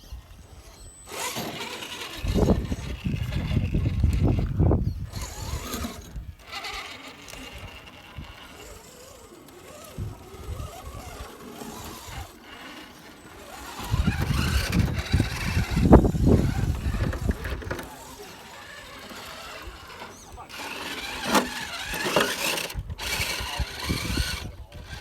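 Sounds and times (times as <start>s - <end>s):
electric motor whining: 0.0s - 25.0s.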